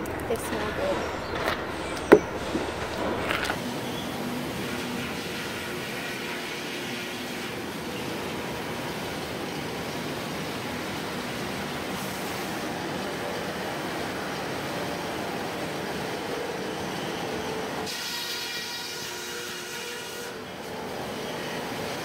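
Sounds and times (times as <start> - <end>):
mill machinery running: 0.0 - 19.0.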